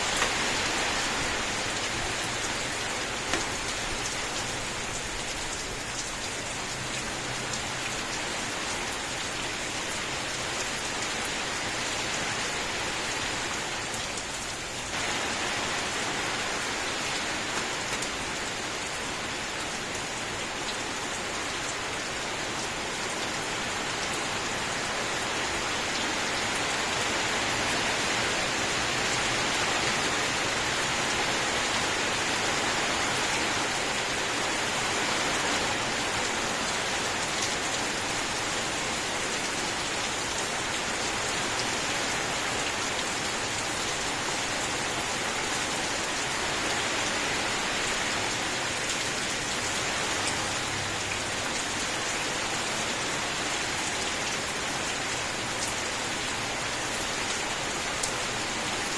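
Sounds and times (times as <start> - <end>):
heavy rain hissing: 0.0 - 58.8.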